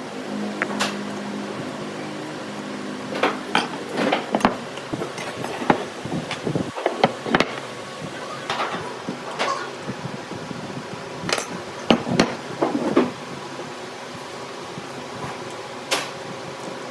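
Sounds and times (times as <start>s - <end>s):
machine humming: 0.0s - 13.6s.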